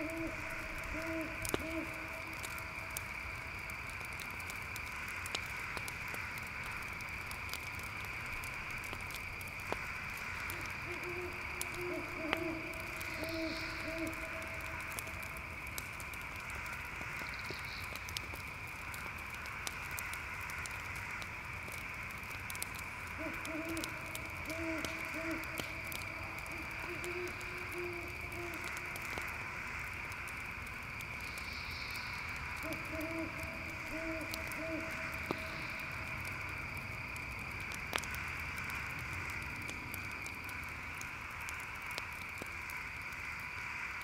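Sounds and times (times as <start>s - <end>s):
crickets chirring: 0.0s - 44.0s
faint crackles: 0.0s - 44.0s
low repeated hooting calls: 0.0s - 44.0s.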